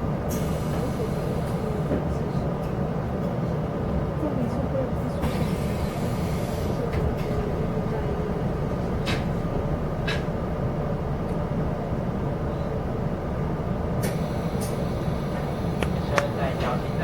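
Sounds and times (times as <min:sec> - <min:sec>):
train rumbling in motion: 0:00.0 - 0:17.0.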